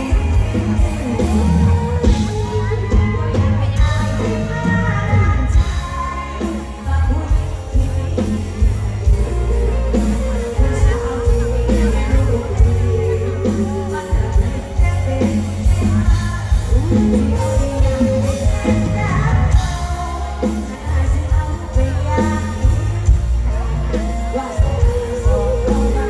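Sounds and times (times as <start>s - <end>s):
band music through loudspeakers: 0.0s - 26.0s
heavy bass: 0.0s - 26.0s
woman singing: 0.0s - 26.0s.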